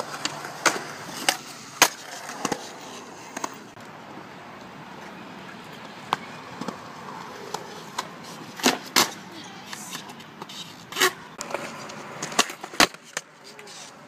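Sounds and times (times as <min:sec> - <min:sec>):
skateboard clacking: 0:00.0 - 0:03.8, 0:05.7 - 0:14.0
skateboard wheels rolling on concrete: 0:00.0 - 0:14.0.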